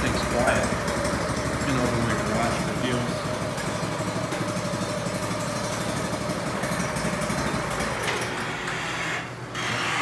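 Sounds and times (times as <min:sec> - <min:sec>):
snowblower engine running: 0:00.0 - 0:08.7.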